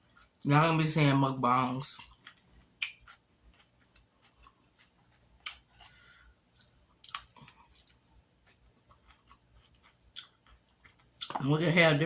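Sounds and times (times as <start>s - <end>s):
person chewing food: 0.0s - 0.5s, 1.8s - 11.5s.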